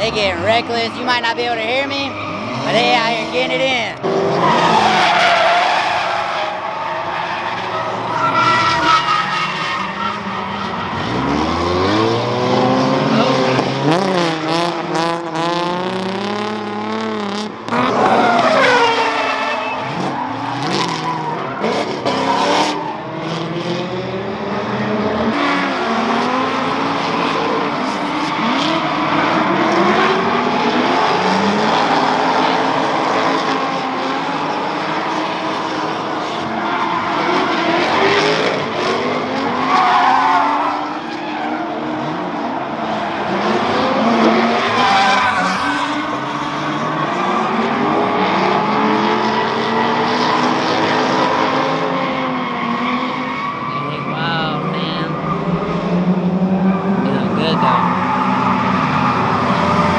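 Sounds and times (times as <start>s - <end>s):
car engines revving: 0.0s - 59.9s
tires squealing: 0.0s - 59.9s.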